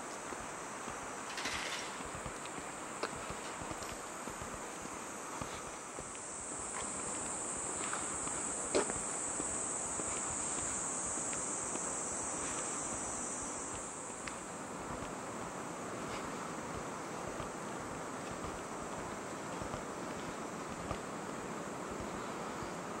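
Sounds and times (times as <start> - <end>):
cicadas droning: 0.0 - 23.0
footstep clicks: 0.0 - 23.0.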